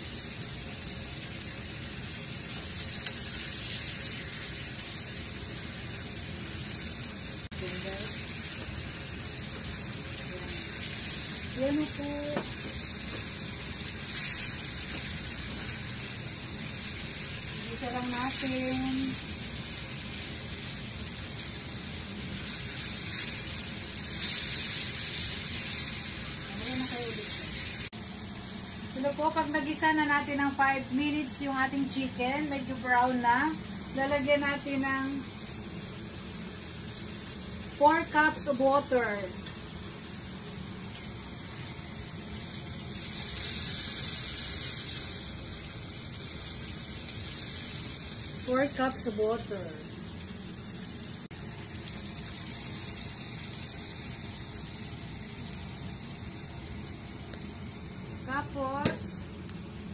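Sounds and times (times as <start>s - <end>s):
chicken sizzling in frying pan: 0.0s - 59.9s.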